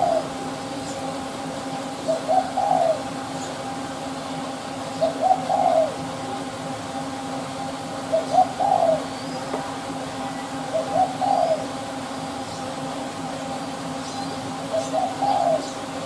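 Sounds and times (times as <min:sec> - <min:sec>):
dove cooing: 0:00.0 - 0:16.0
faint steady hum: 0:00.0 - 0:16.0.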